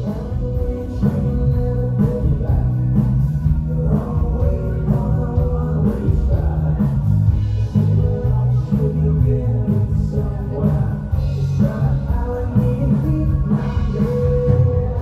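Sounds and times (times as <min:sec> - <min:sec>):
drum kit steady beat: 0:00.0 - 0:15.0
electric guitars: 0:00.0 - 0:15.0
keyboard: 0:00.0 - 0:15.0
man singing lead vocal: 0:00.0 - 0:15.0.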